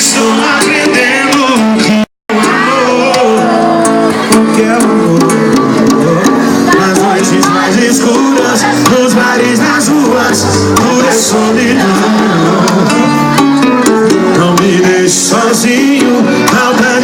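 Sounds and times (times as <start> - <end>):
live band with guitar: 0.0 - 17.0
person singing: 0.0 - 17.0.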